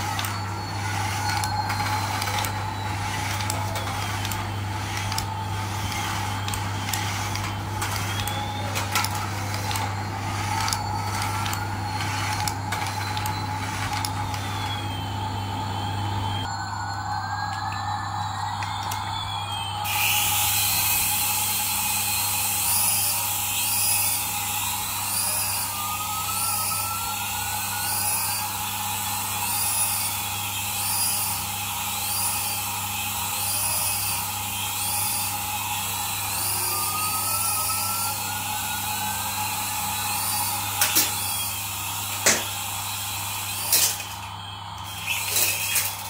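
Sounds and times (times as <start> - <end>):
toy helicopter rotors whining: 0.0 - 46.0.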